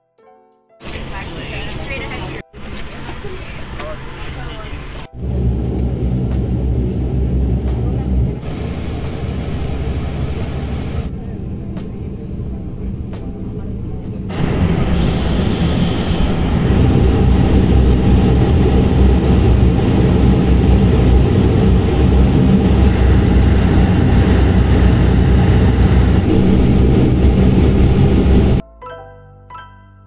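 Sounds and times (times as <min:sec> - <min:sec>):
jet engines rumbling: 0:00.8 - 0:28.6.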